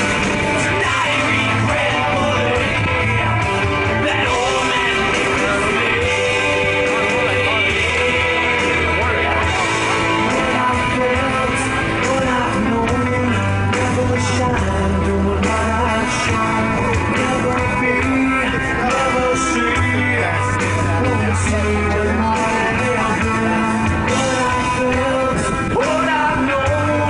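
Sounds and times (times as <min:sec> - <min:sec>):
rock music with singing: 0:00.0 - 0:27.0.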